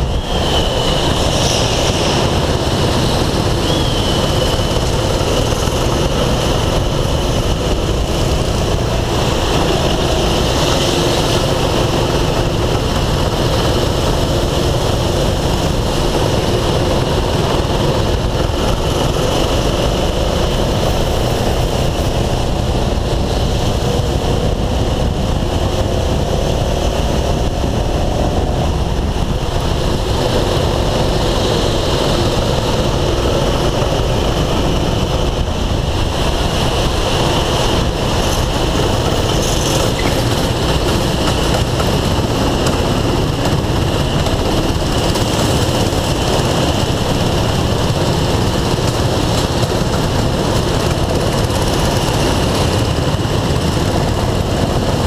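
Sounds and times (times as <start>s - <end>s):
go-kart engine rumbling: 0.0s - 55.0s.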